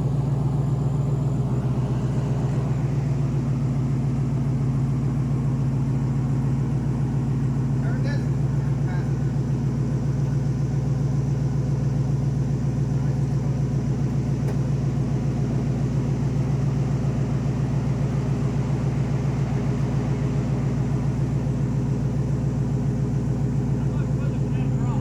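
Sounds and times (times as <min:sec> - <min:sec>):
engine running at low speed: 0:00.0 - 0:25.0.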